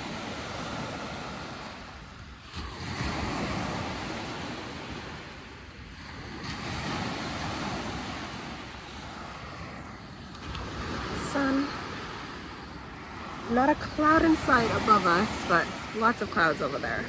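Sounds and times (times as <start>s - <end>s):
waves washing onto shore: 0.0s - 17.0s.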